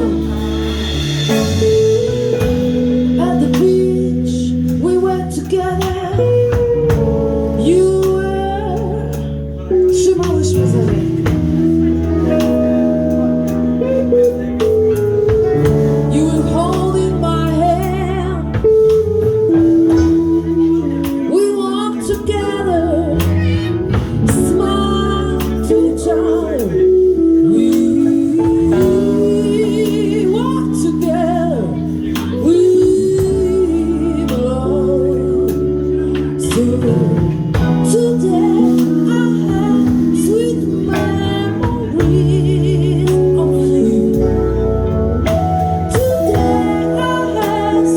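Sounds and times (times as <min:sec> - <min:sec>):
live jazz band playing: 0:00.0 - 0:47.9
wordless sliding vocal melody: 0:00.0 - 0:47.9.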